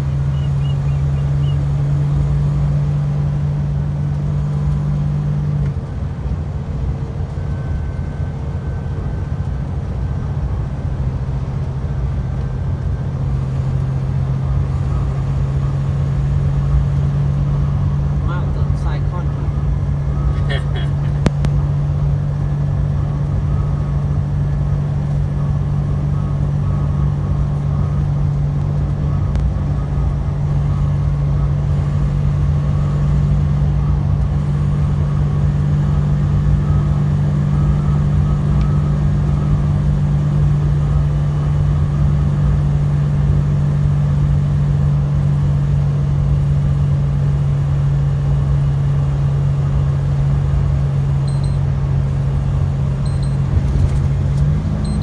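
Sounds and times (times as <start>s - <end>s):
truck engine drone: 0.0s - 55.0s.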